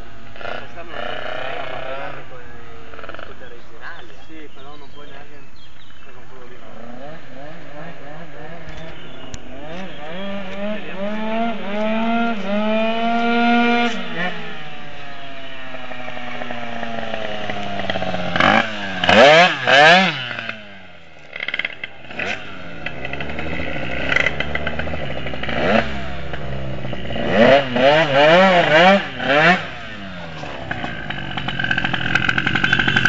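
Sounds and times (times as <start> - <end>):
two-stroke scooter engine revving: 0.0 - 33.0.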